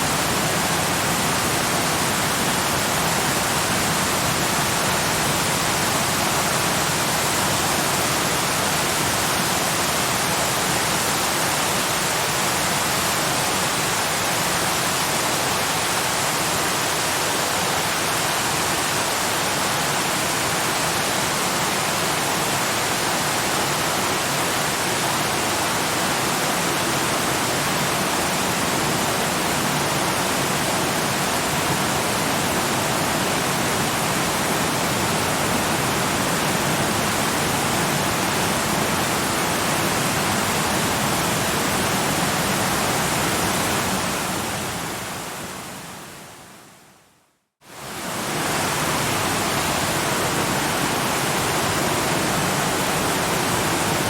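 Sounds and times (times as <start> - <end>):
waterfall rushing: 0.0 - 46.4, 47.7 - 54.0.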